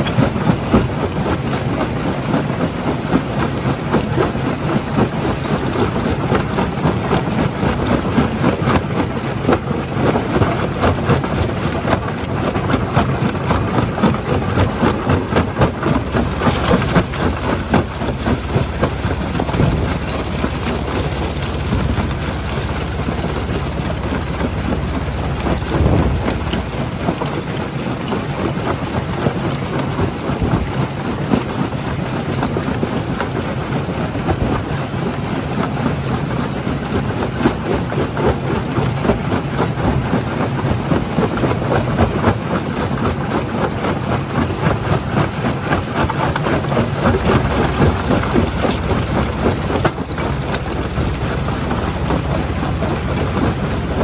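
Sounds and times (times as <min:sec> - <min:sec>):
low machine drone: 0:00.0 - 0:40.0, 0:44.3 - 0:54.0.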